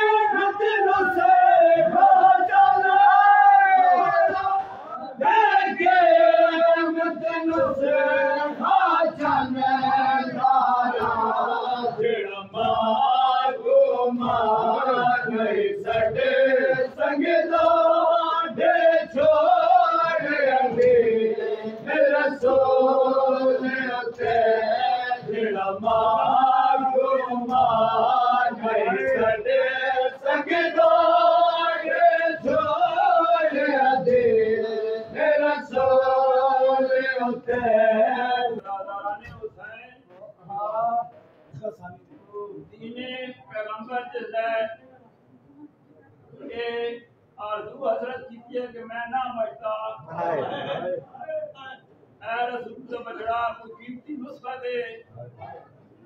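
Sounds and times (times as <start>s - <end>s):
men chanting in chorus: 0.0s - 39.7s, 46.4s - 55.1s.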